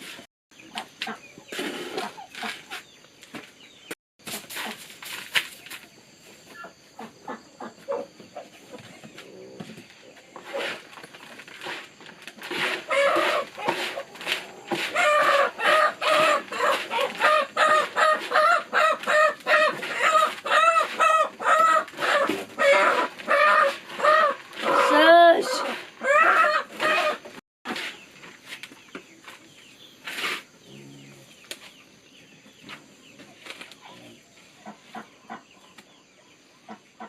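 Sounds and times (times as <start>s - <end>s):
chickens clucking: 0.6s - 3.8s, 5.6s - 37.0s.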